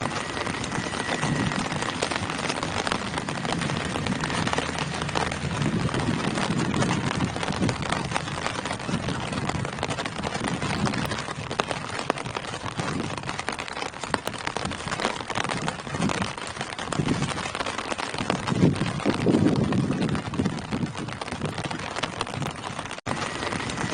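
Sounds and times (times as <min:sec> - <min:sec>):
gusts of rushing wind: 0:00.0 - 0:23.9
rain falling through leaves: 0:00.0 - 0:23.9.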